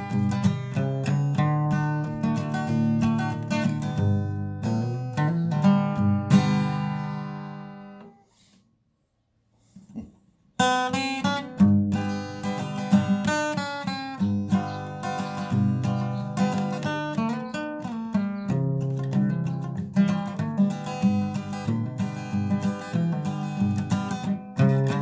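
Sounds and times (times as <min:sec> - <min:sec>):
acoustic guitar music: 0:00.0 - 0:08.6, 0:10.6 - 0:25.0.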